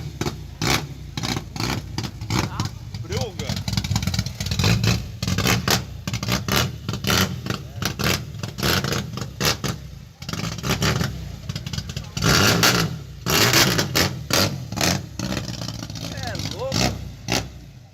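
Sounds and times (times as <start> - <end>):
car engine running rough: 0.0 - 17.9.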